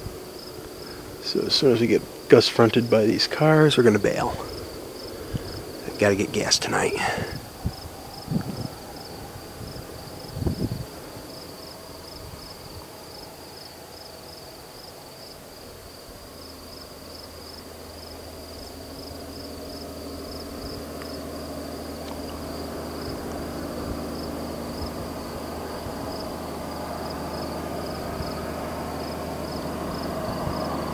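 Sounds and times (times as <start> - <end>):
insects chirping: 0.0 - 30.9
vehicle engine humming: 0.0 - 30.9.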